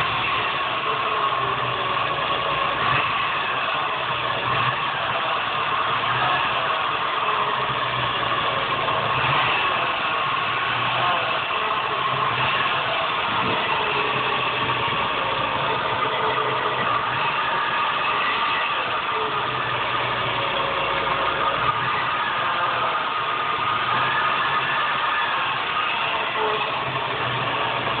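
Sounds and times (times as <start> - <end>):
car engine running: 0.0 - 28.0
whirring whine: 0.0 - 28.0.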